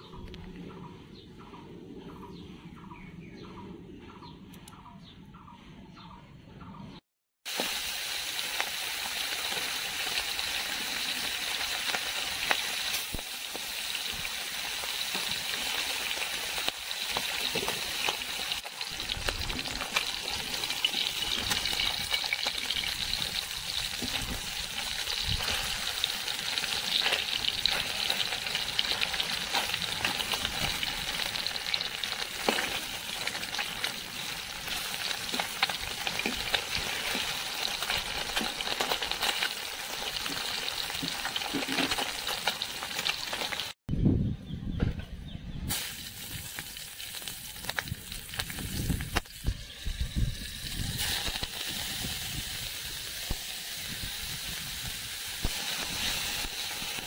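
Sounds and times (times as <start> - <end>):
fish sizzling in hot oil: 7.5 - 43.8, 45.7 - 57.0.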